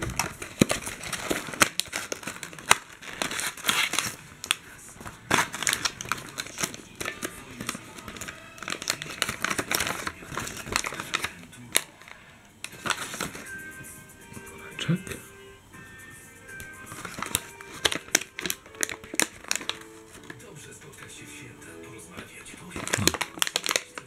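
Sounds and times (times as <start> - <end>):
packaging rustling and crinkling: 0.0 - 13.5, 16.6 - 21.2, 22.0 - 24.0.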